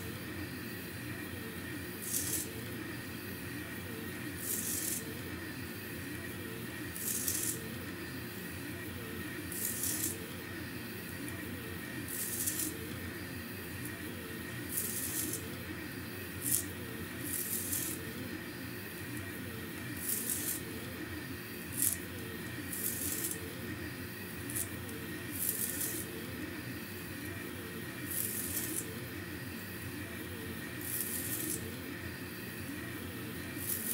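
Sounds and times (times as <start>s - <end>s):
stepper motors whirring: 0.0s - 33.9s.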